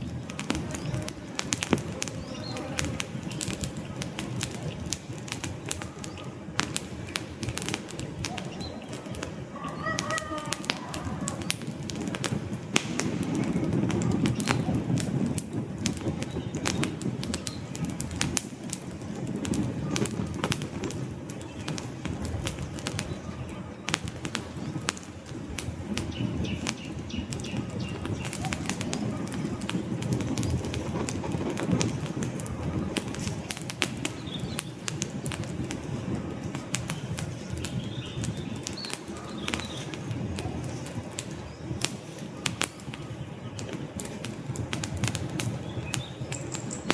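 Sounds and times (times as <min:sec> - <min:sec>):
logs crackling and popping: 0:00.0 - 0:46.9
rush of flames: 0:00.0 - 0:46.9.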